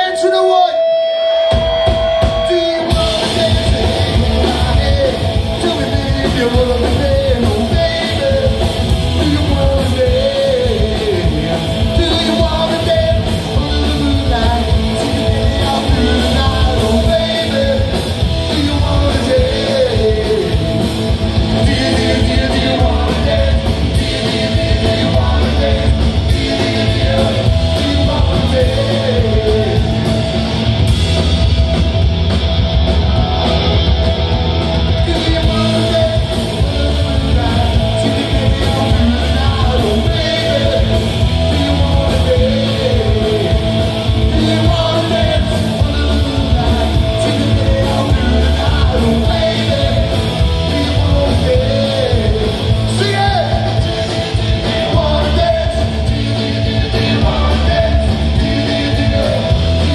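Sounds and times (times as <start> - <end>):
man singing: 0.0 - 30.6, 34.8 - 59.9
bass: 0.0 - 59.9
distorted electric guitars: 0.0 - 59.9
drums: 0.0 - 59.9.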